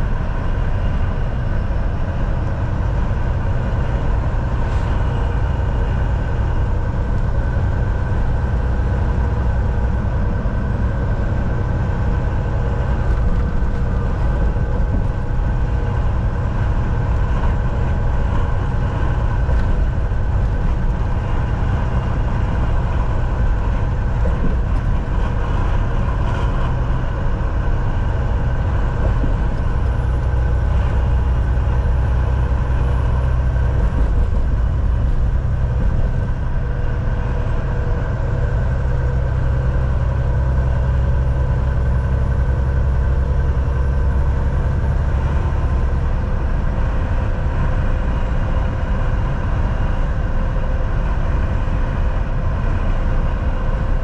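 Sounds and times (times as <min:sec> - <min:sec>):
road noise rumble: 0:00.0 - 0:54.0
truck diesel engine drone: 0:00.0 - 0:54.0.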